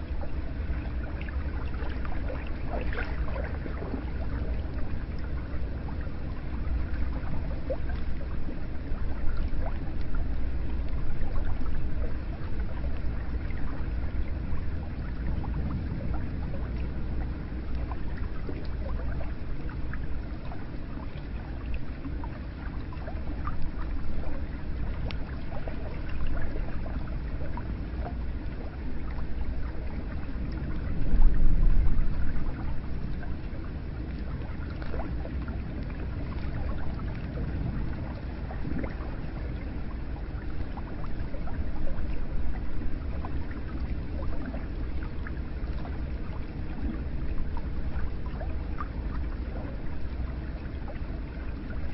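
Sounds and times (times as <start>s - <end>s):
water drips and splashes: 0.0s - 51.9s.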